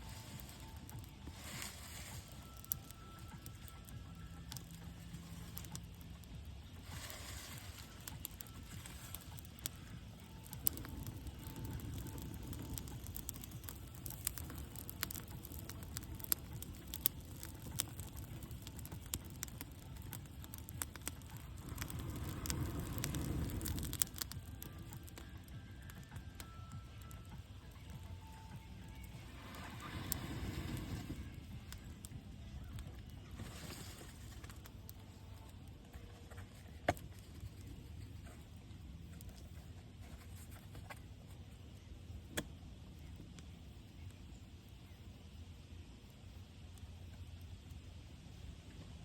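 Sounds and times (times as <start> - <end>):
fire crackling and popping: 0.0 - 49.0.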